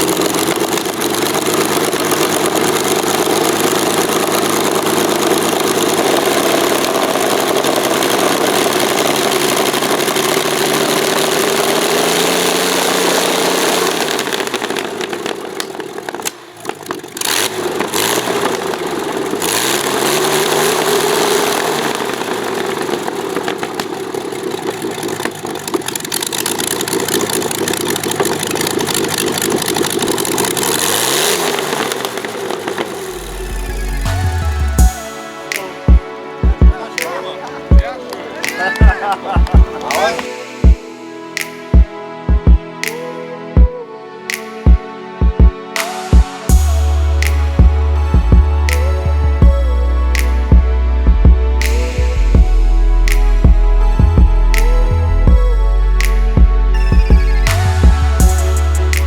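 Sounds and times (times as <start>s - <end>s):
aircraft engine running: 0.0s - 59.0s.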